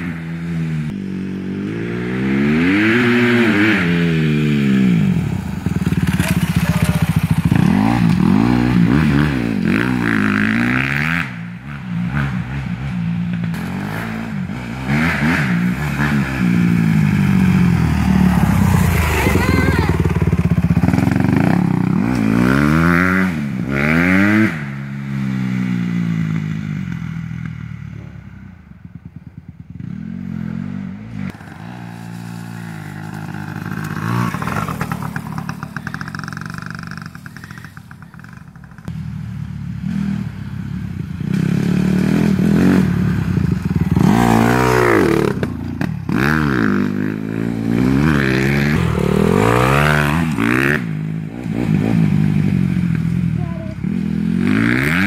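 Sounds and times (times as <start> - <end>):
dirt bikes revving past: 0.0 - 28.2, 28.8 - 55.0.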